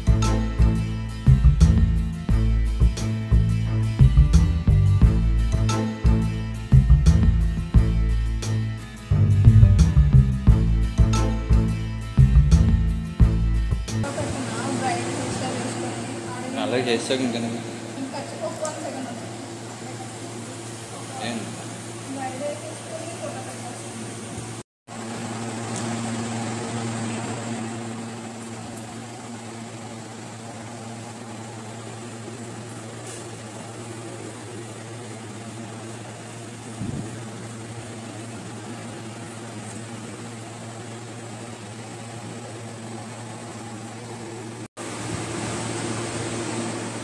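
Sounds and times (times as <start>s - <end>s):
ventilation fan humming: 0.0s - 47.0s.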